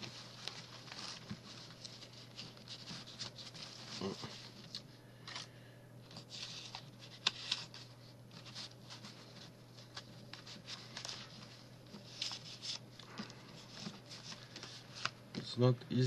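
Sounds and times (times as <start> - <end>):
paper and card rustling: 0.0 - 5.5, 6.1 - 15.7.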